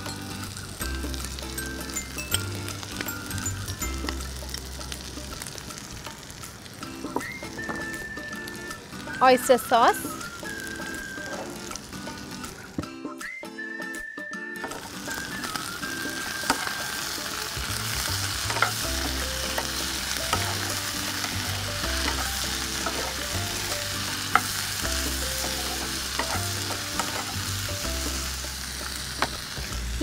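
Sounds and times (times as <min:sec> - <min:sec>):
food sizzling in a frying pan: 0:00.0 - 0:12.8, 0:14.6 - 0:30.0.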